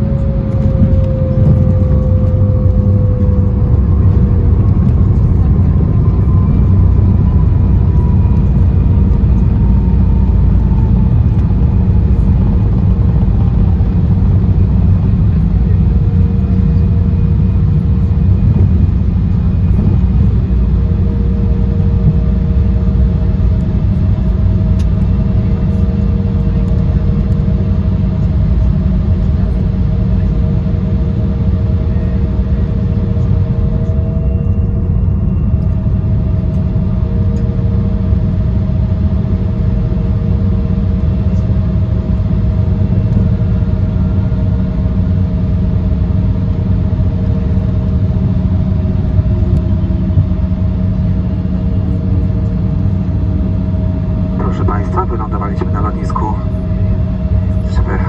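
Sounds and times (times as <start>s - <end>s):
jet engines idling rumble: 0.0s - 58.0s
steady humming tones: 0.0s - 58.0s.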